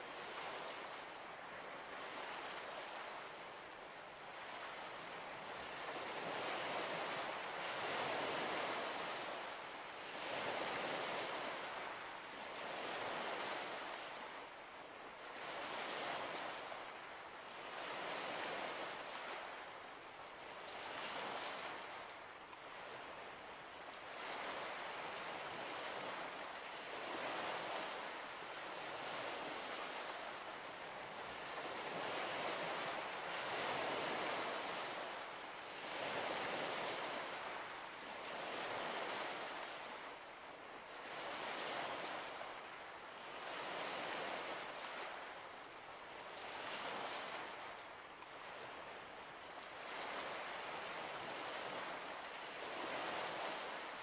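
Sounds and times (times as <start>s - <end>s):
waves washing in: 0.0s - 54.0s.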